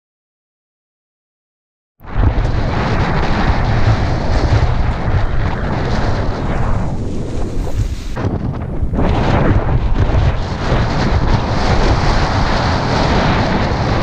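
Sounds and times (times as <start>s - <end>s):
heavy low rumble: 2.0s - 14.0s
wind buffeting microphone: 2.0s - 14.0s.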